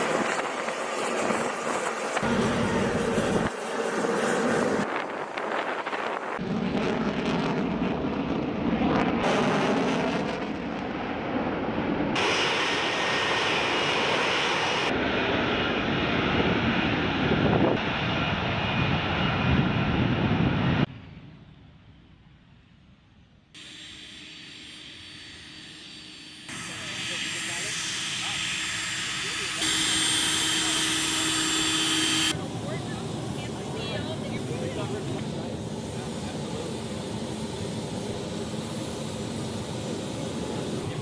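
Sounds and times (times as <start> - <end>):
fighter jet engines: 0.0 - 41.0.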